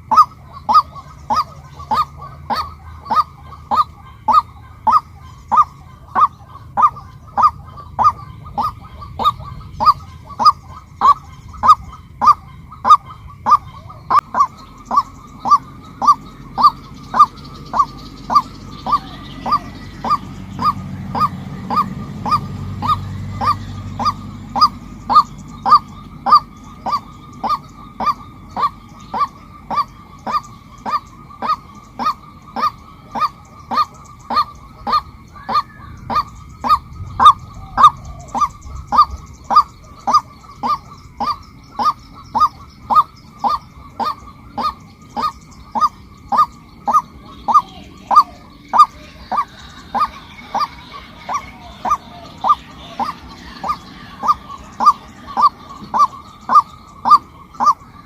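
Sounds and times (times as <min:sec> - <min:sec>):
waterhen calling: 0:00.0 - 0:58.0.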